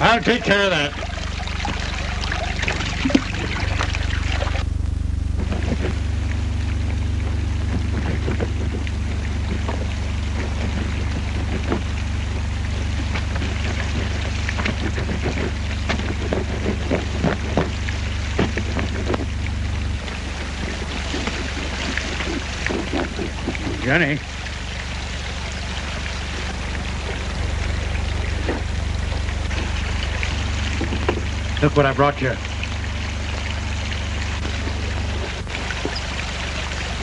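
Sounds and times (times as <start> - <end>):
water splashing in a washtub: 0.0 - 4.7, 5.3 - 37.0
steady low hum: 0.0 - 37.0.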